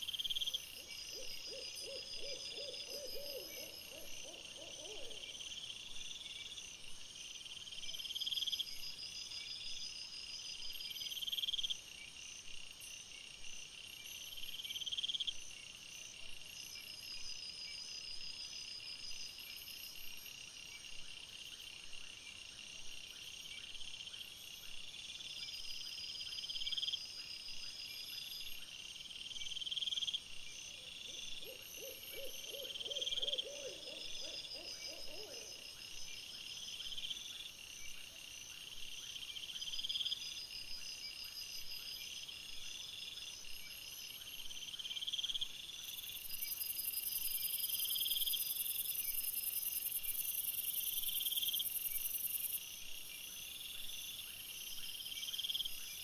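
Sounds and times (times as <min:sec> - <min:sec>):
lower pulsed insect call: 0:00.0 - 0:56.0.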